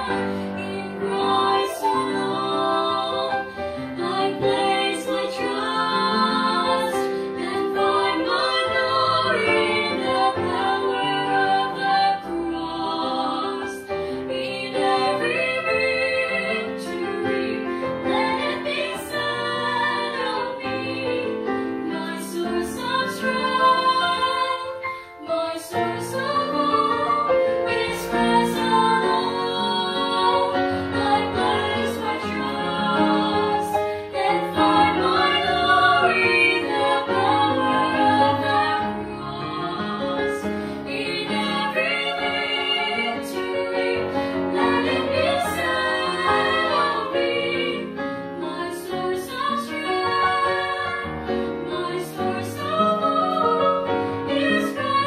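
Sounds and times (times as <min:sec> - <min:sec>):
women singing together: 0:00.0 - 0:55.0.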